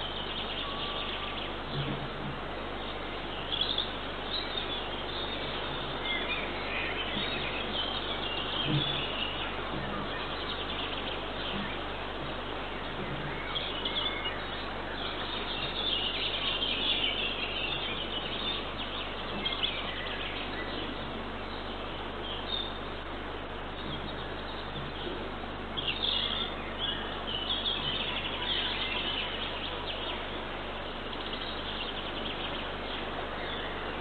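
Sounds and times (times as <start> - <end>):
songbirds chirping: 0.0 - 34.0
steady outdoor hiss: 0.0 - 34.0.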